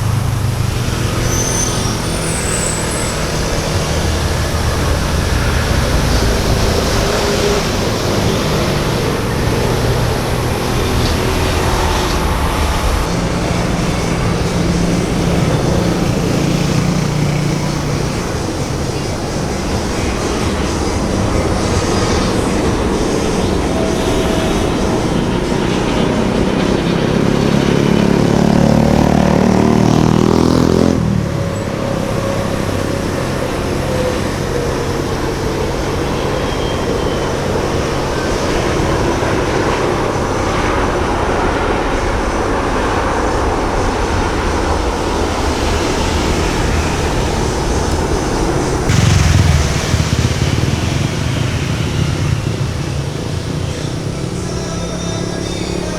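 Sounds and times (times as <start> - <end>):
jet engine roaring: 0.0 - 55.9.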